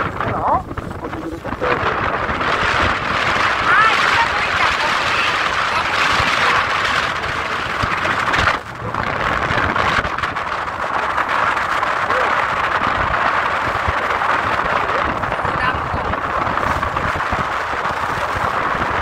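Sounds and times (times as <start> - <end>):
boat engine and water rushing: 0.0 - 19.0.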